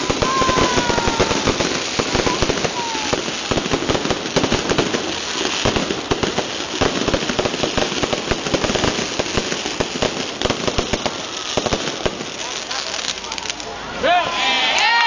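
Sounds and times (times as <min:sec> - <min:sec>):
hissing sparks: 0:00.0 - 0:13.8
fireworks bangs and crackles: 0:00.0 - 0:14.0.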